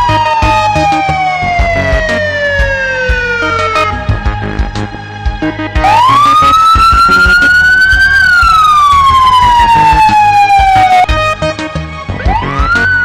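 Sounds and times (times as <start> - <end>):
background music with steady beat: 0.0 - 13.0
siren wailing: 0.0 - 13.0.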